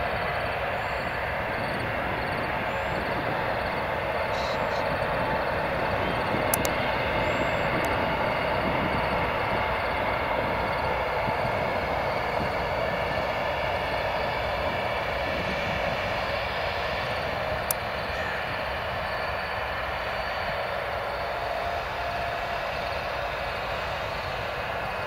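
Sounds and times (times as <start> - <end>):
jet engines idling: 0.0 - 25.0.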